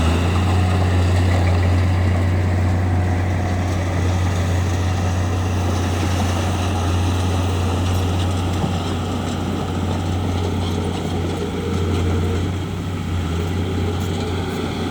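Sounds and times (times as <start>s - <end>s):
bulldozer diesel engine running: 0.0s - 14.9s.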